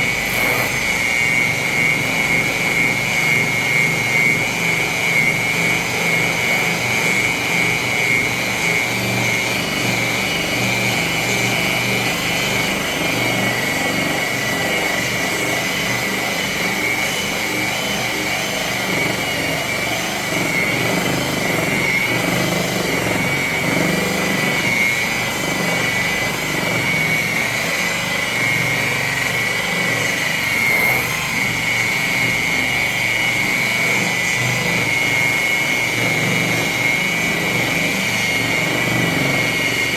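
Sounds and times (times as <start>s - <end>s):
electric buffer whining: 0.0s - 39.9s.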